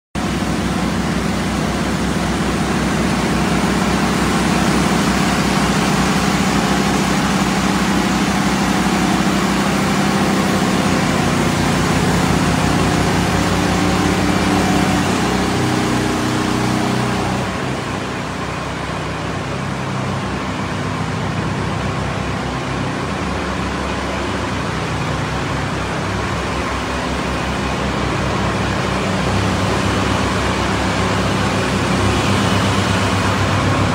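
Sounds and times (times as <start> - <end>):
pressure washer engine hum: 0.2 - 33.9.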